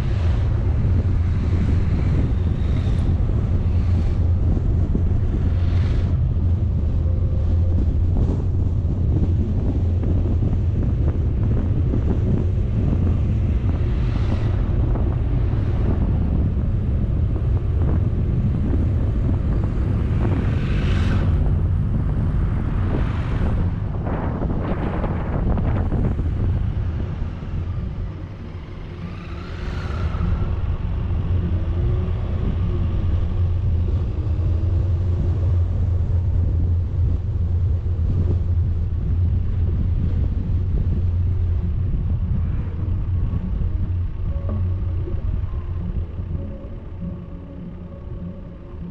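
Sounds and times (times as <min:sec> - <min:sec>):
vehicle driving rumble: 0:00.0 - 0:48.9
wind buffeting microphone: 0:00.0 - 0:48.9.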